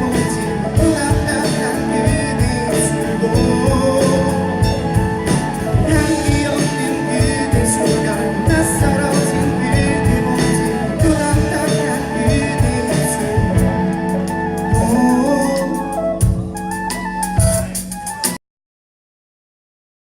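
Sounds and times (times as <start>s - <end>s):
electric guitar: 0.0s - 18.4s
live rock band playing: 0.0s - 18.4s
steady drum beat: 0.0s - 18.4s.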